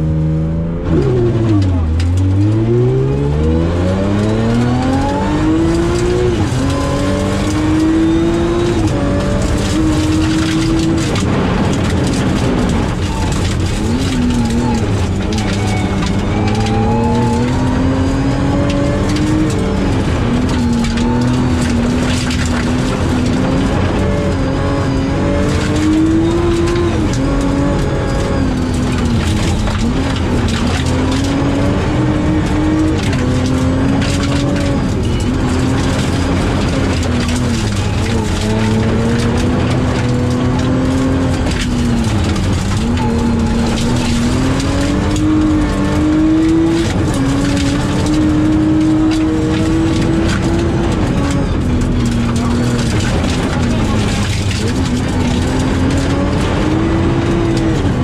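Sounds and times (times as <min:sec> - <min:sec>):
rally car engine revving: 0:00.0 - 0:58.0
tyres rumbling on gravel: 0:00.8 - 0:58.0.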